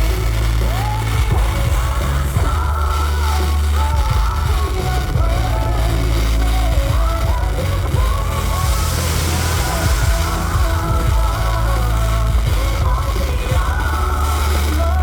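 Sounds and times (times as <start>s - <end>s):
heavy bass: 0.0s - 15.0s
music with singing voice: 0.0s - 15.0s.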